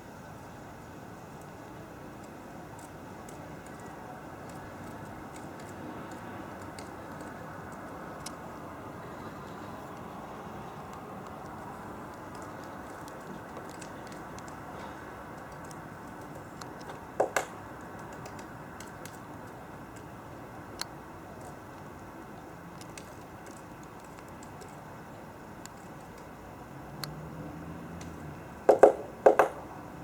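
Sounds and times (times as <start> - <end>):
steady background noise: 0.0 - 30.0
woodpecker pecking: 2.2 - 26.4, 28.0 - 29.7.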